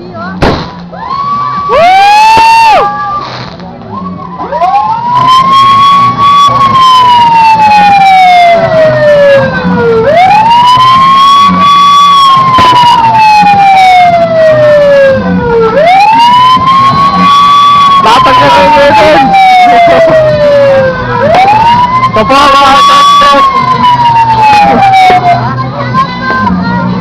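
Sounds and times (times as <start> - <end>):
siren wailing: 1.0 - 3.3, 3.9 - 25.7.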